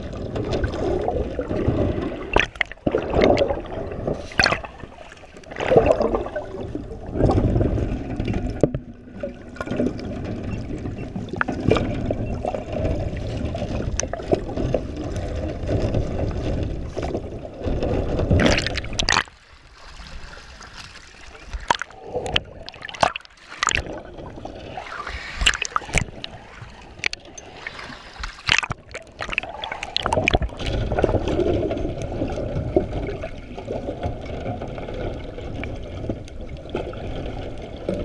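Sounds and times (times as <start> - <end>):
underwater churning and bubbles: 0.0 - 38.0
water splashing: 0.0 - 38.0.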